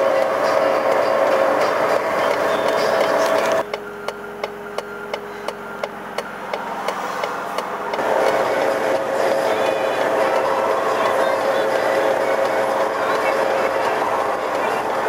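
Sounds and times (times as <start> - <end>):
loud vehicle noise: 0.0 - 15.0
road sweeper whine: 0.0 - 15.0
mechanical ticking: 0.1 - 15.0.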